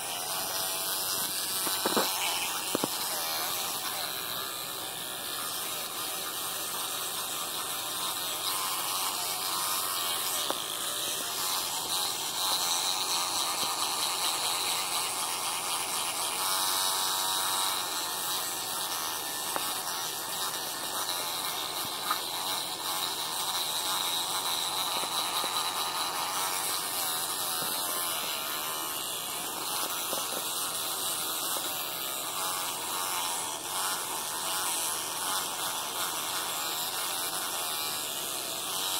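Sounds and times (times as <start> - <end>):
electric toothbrush buzzing: 0.0 - 38.9.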